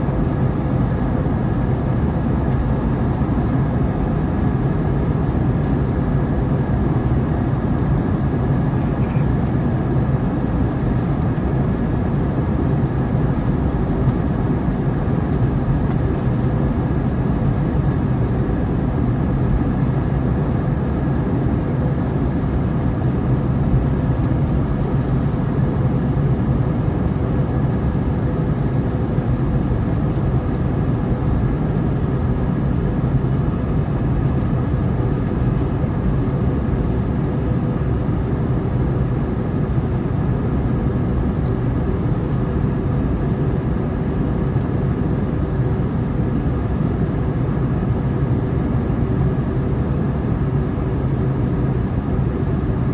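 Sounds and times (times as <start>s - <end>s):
jet engines rumbling: 0.0s - 25.4s, 27.7s - 49.1s.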